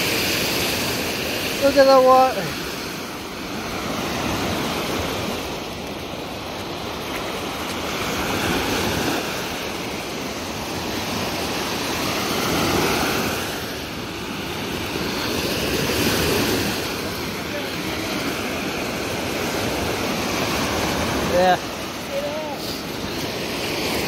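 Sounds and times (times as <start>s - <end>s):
waves washing against shore: 0.0s - 24.0s.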